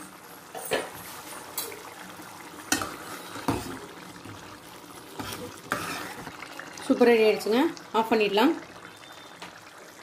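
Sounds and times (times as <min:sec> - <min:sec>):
curry bubbling at the boil: 0:00.0 - 0:10.0.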